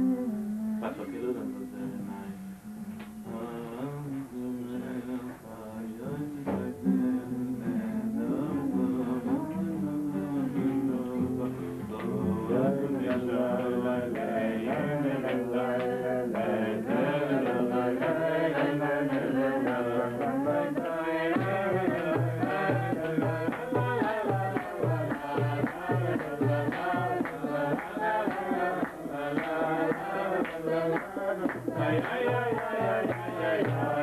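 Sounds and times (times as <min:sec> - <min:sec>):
person singing melody: 0:00.0 - 0:34.0.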